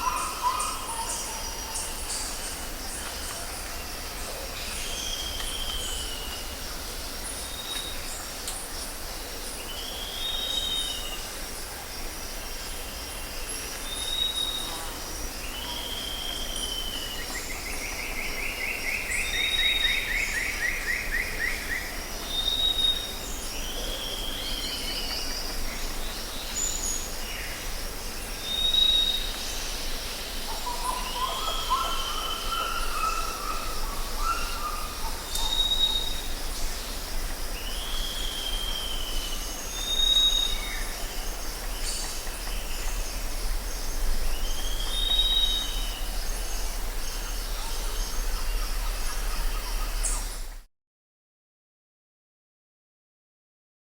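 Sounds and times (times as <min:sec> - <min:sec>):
high insect drone: 0:00.0 - 0:50.6.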